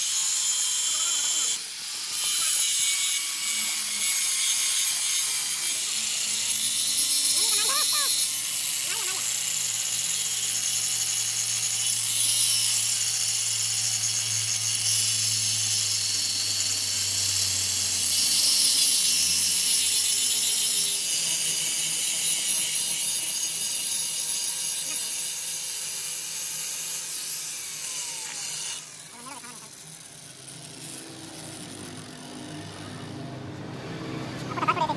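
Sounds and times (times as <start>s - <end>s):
tool rasping metal: 0.0s - 33.2s.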